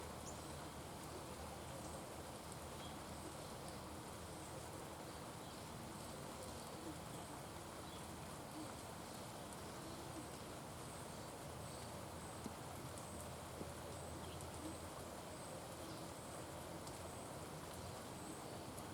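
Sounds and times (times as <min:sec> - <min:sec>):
steady outdoor hiss: 0:00.0 - 0:18.9.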